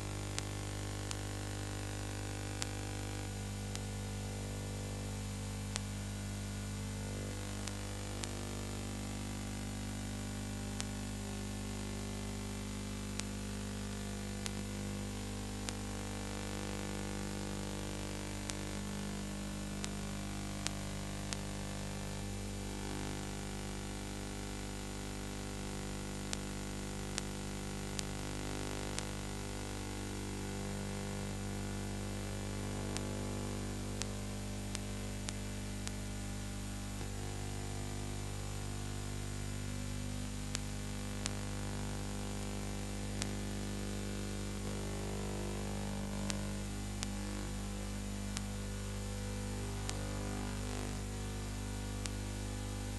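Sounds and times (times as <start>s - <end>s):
electrical hum: 0.0s - 52.9s.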